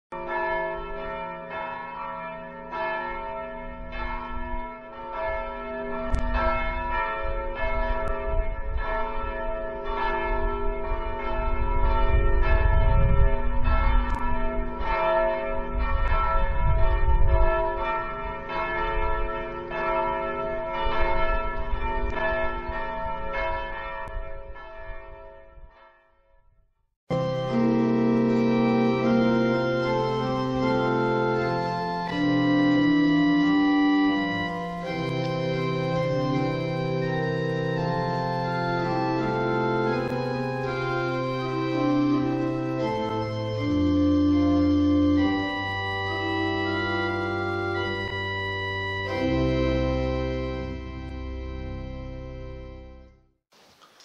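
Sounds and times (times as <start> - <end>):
church bells ringing: 0.1 - 26.2, 27.1 - 53.1.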